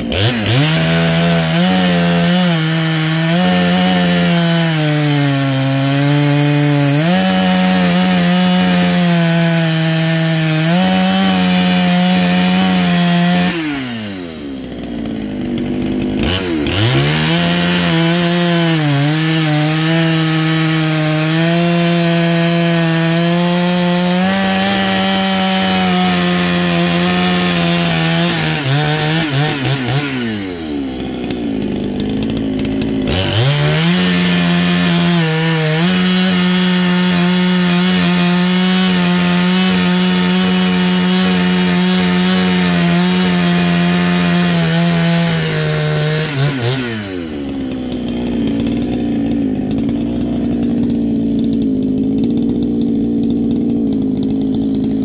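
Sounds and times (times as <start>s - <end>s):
chainsaw cutting logs: 0.0s - 55.0s.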